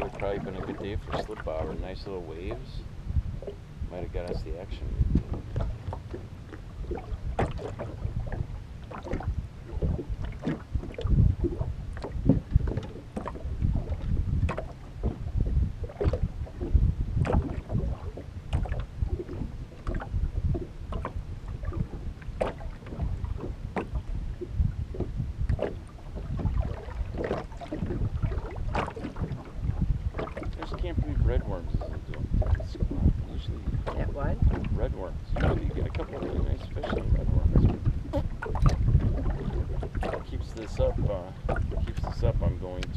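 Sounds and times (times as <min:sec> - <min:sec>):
small waves slapping boat hull: 0:00.0 - 0:42.9
wind rumble on microphone: 0:00.0 - 0:42.9.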